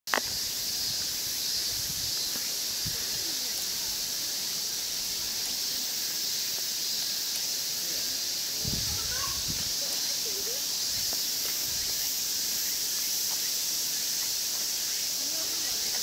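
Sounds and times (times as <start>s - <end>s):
shrill insect chorus: 0.1s - 16.0s.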